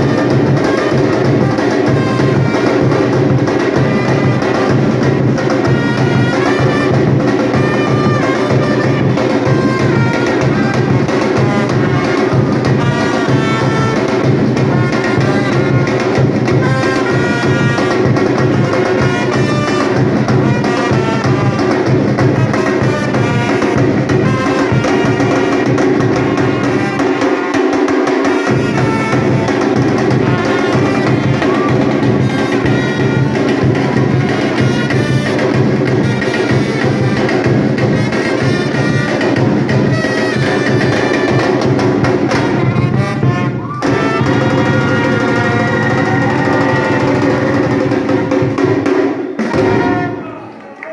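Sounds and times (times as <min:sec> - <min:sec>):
samba drum group playing: 0:00.0 - 0:50.6.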